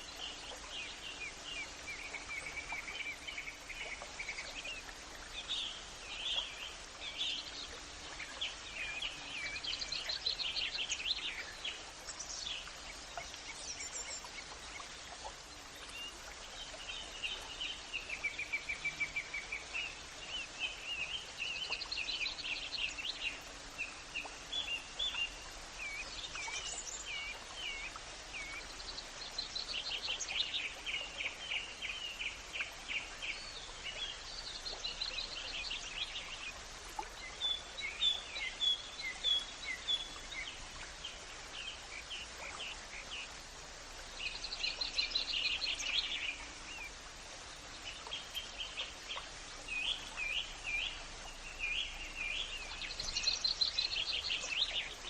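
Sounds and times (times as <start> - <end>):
songbirds singing: 0.0 - 55.0
steady background hiss: 0.0 - 55.0.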